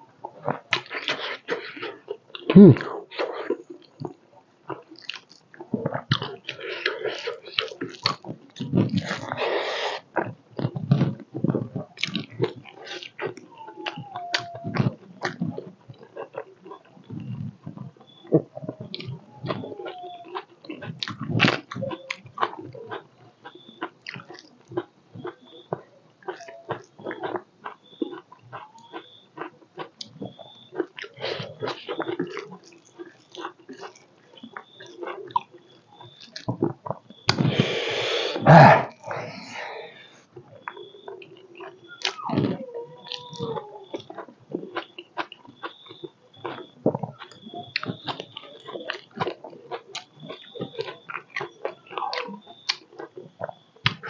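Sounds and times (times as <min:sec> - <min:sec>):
chewing and lip-smacking: 0:00.0 - 0:54.0.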